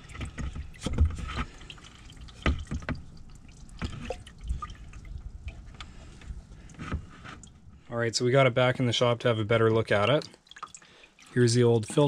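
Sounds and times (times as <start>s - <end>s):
fuel dripping into plastic bucket: 0.0s - 7.9s, 9.8s - 12.0s.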